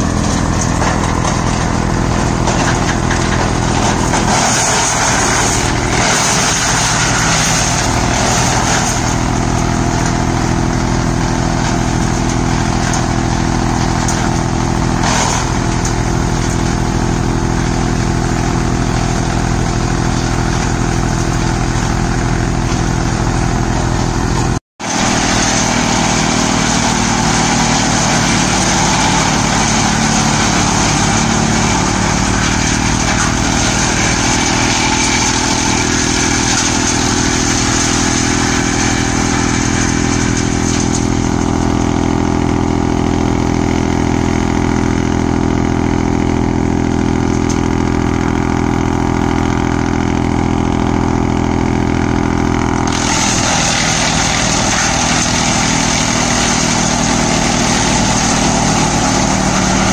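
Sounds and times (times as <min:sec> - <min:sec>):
engine hum: 0:00.0 - 0:59.9
wood chipper shredding branches: 0:00.0 - 0:59.9.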